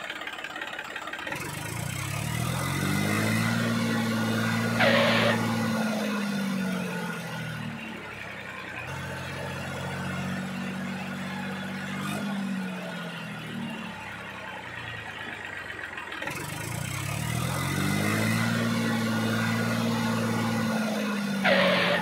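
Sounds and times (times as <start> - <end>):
small tractor motor humming: 0.0 - 22.0.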